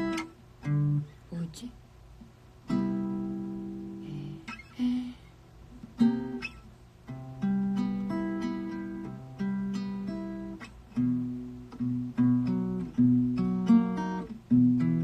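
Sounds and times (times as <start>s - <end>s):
acoustic guitar chords strummed: 0.0s - 1.2s, 2.1s - 15.0s.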